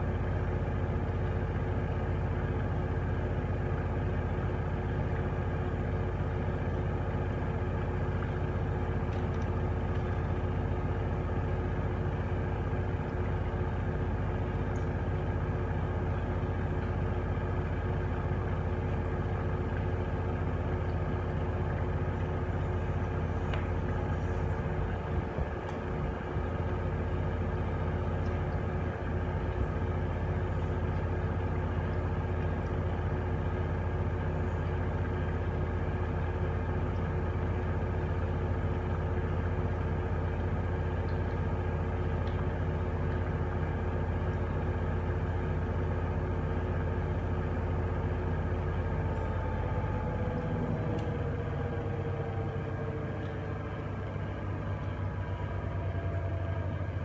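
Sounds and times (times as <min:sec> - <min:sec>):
washing machine motor whine: 0:00.0 - 0:57.0.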